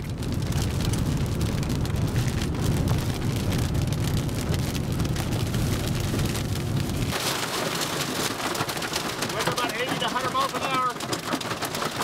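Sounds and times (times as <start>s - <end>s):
rain pattering on vehicle: 0.0s - 12.0s
vehicle driving rumble: 0.0s - 12.0s.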